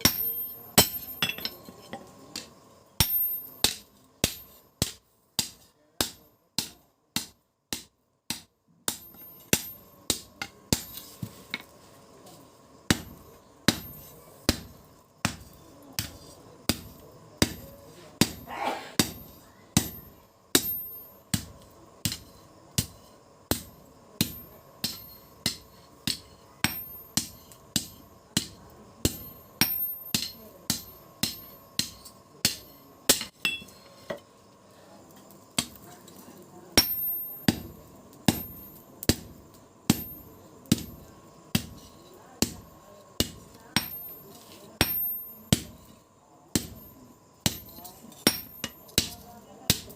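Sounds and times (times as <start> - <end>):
hammer striking metal on anvil: 0.0 - 11.0, 12.9 - 34.2, 36.8 - 45.8, 46.5 - 49.9.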